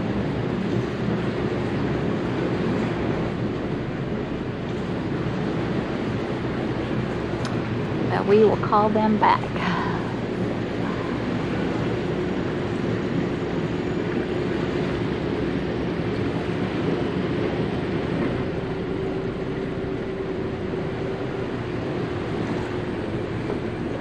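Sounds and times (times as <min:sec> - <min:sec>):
boat engines droning: 0:00.0 - 0:24.0.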